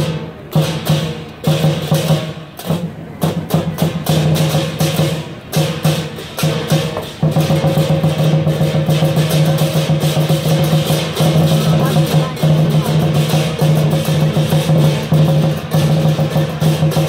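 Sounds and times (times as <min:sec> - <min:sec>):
drum beating: 0:00.0 - 0:17.0.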